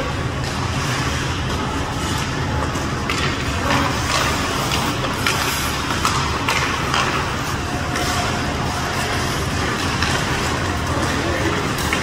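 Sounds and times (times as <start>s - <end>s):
skates and sticks scraping ice: 0.0s - 12.0s.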